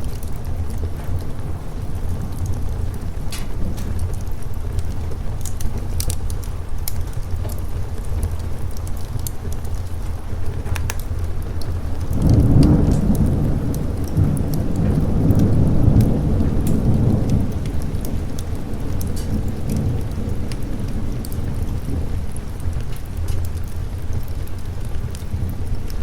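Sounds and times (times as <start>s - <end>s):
raindrops pattering: 0.0s - 26.0s
thunder rumbling: 0.0s - 26.0s.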